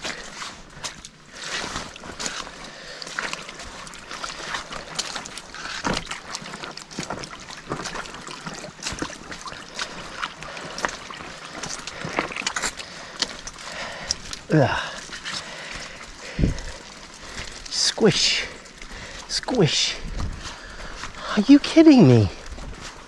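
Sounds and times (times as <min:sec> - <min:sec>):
water splashing from wading: 0:00.0 - 0:22.2.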